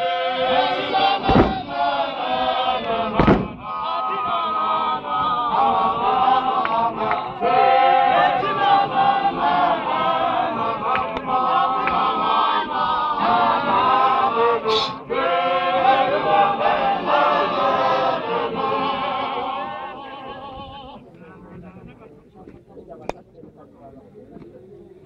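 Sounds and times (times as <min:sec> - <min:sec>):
men's choir singing a hymn: 0:00.0 - 0:21.0.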